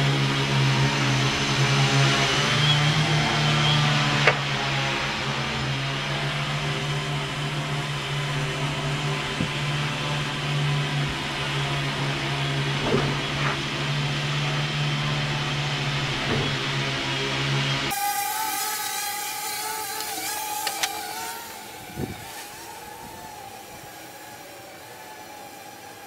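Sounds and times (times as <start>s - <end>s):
quadcopter motors whirring: 0.0s - 26.0s.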